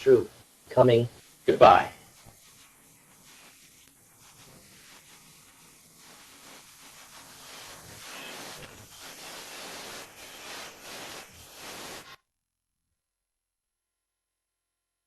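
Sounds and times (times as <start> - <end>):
rushing hiss: 0.0 - 12.2.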